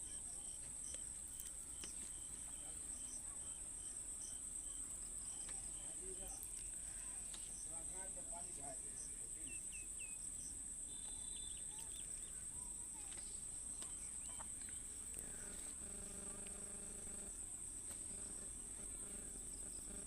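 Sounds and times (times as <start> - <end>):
short insect chirps: 0.0 - 7.8, 8.9 - 20.0
crickets trilling: 0.0 - 20.0.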